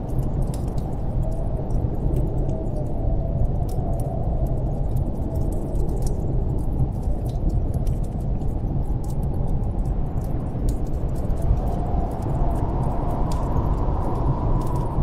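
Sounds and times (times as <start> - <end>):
howling storm wind: 0.0 - 15.0
wood fire crackling: 0.0 - 15.0.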